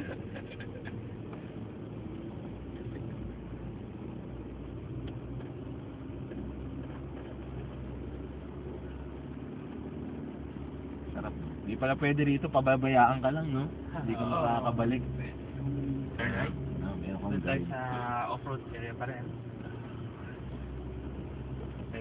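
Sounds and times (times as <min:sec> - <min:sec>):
car engine running at low speed: 0:00.0 - 0:22.0.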